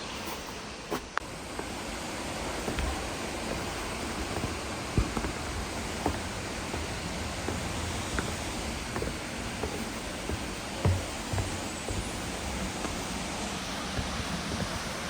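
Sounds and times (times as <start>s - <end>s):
waterfall rushing: 1.3s - 15.0s
soft knocks: 2.4s - 15.0s.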